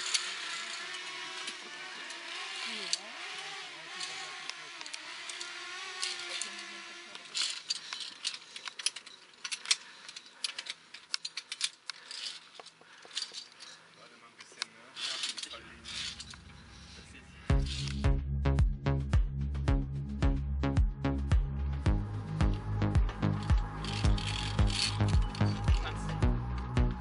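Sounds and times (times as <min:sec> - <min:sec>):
climbing gear clinking on steel cable: 0:00.0 - 0:16.7, 0:17.5 - 0:18.1, 0:22.4 - 0:27.0.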